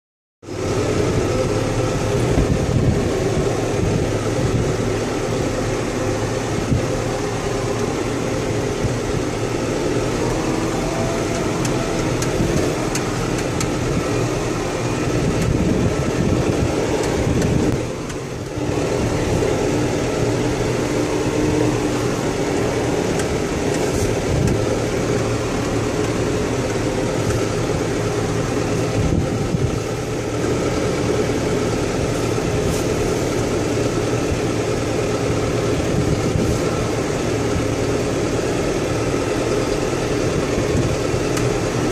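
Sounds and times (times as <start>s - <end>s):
tractor diesel engine running: 0.4s - 41.9s.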